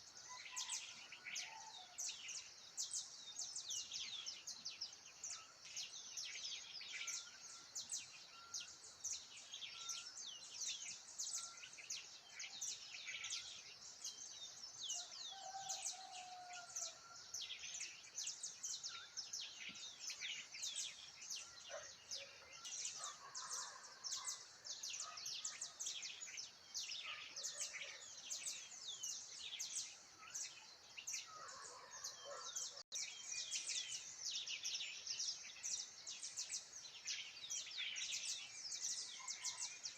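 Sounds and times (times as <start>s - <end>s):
wild birds chirping and twittering: 0.0s - 39.9s.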